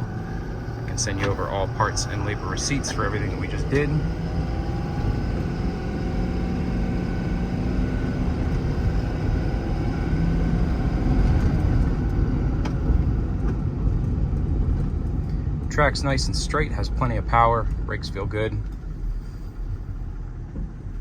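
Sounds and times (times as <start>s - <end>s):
road noise: 0.0s - 21.0s
truck engine running: 0.0s - 21.0s.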